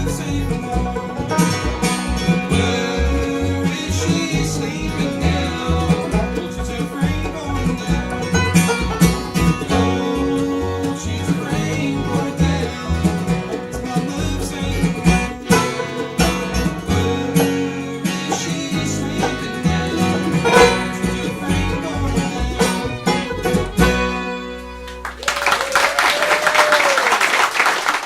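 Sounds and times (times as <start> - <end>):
bluegrass band playing: 0.0 - 26.0.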